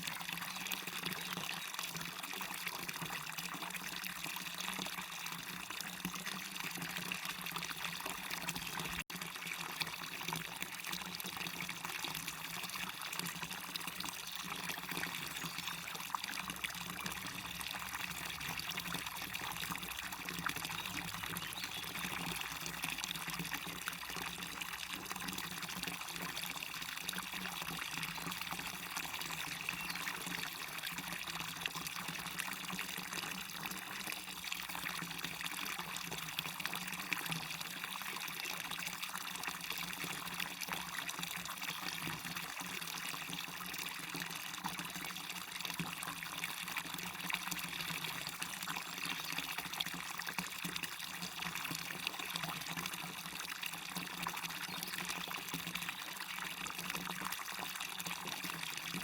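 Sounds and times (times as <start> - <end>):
waterfall water pouring: 0.0 - 59.0.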